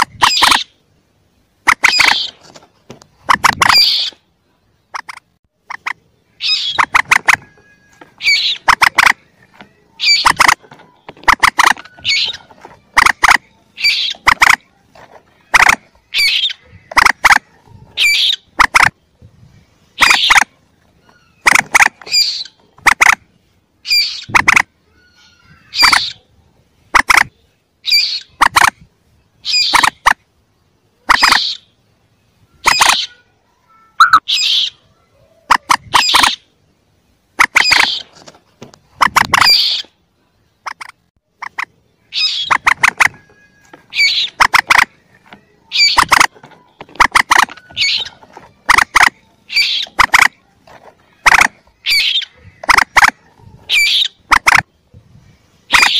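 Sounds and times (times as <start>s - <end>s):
moorhen clicking calls: 0.0s - 0.8s, 1.6s - 19.0s, 19.8s - 30.3s, 30.9s - 31.8s, 32.5s - 33.3s, 34.0s - 34.8s, 35.4s - 54.8s, 55.7s - 55.9s.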